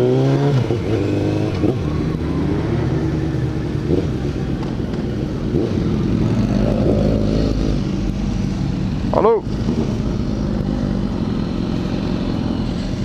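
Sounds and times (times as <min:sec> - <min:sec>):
motorcycle engine pulling away: 0:00.0 - 0:13.0.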